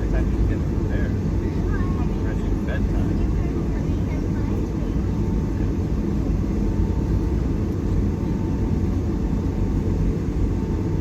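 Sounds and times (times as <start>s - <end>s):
airplane cabin rumble: 0.0s - 11.0s
jet engines whining: 0.0s - 11.0s.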